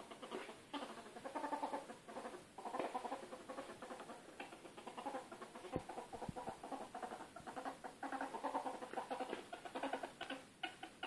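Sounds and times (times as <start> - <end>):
ferret dooking: 0.0 - 11.0.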